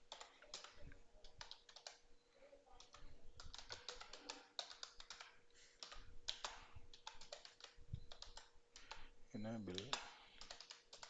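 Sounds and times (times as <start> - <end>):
computer keyboard typing: 0.0 - 2.1, 2.7 - 11.0.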